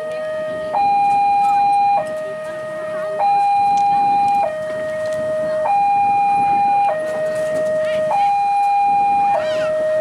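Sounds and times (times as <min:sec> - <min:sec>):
level-crossing two-tone alarm: 0:00.0 - 0:10.0.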